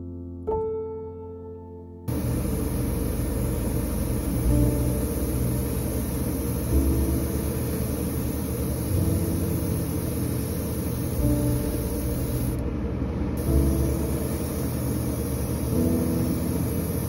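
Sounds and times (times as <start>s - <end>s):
mechanical rumble with hum: 2.1s - 17.0s.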